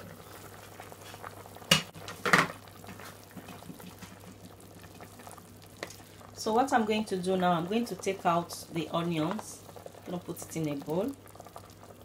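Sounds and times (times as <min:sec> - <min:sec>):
pot of water boiling: 0:00.0 - 0:12.0.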